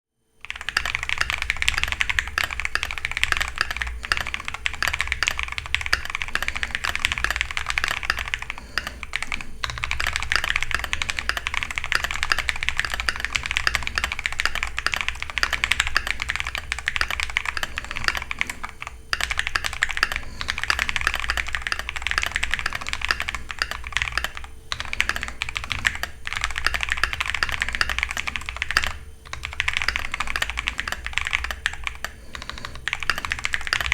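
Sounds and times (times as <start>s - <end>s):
fast typing on mechanical keyboard: 0.4s - 33.9s.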